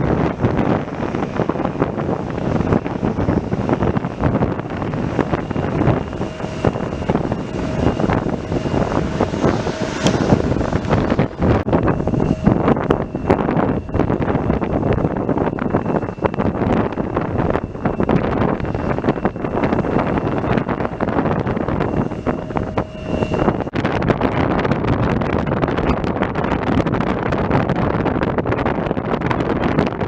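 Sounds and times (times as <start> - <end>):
faint high whine: 0.0 - 26.1
wind buffeting microphone: 0.0 - 30.0.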